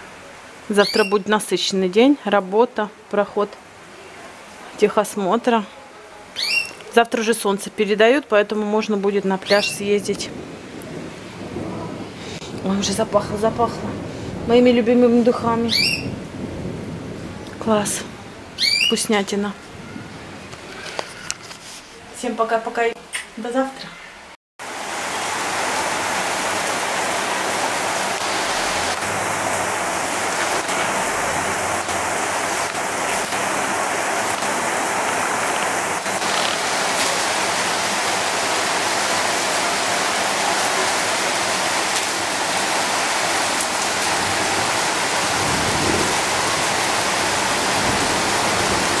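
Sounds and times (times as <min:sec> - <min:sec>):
rain on tiled roofs: 0:00.0 - 0:49.0.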